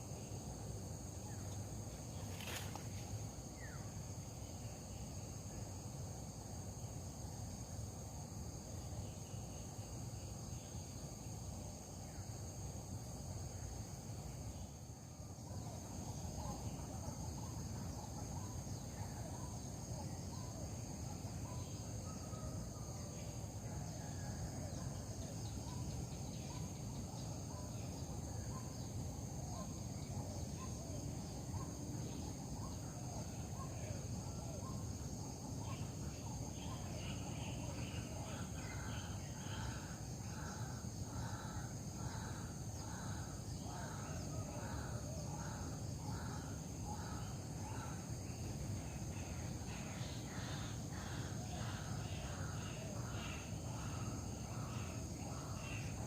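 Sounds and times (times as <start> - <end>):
insect chorus buzzing: 0.0 - 56.0.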